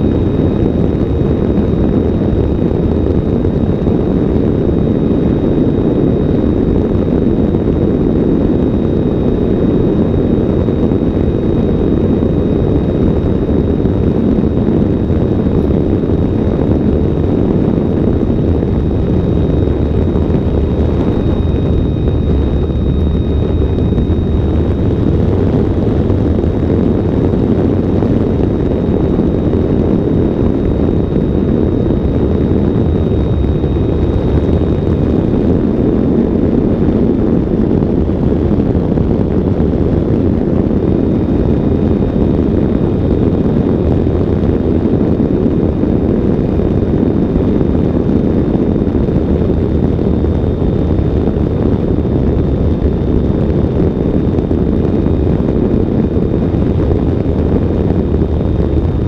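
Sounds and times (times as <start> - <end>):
faint high whine: 0.0 - 59.0
loud wind rush: 0.0 - 59.0.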